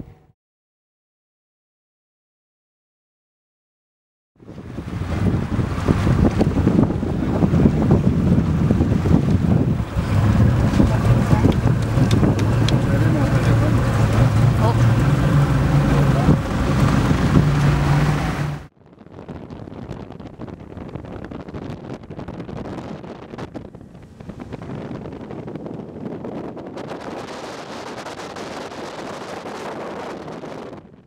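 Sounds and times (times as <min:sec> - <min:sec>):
motorboat engine running: 0:04.4 - 0:31.0
wind on the microphone: 0:04.4 - 0:31.0.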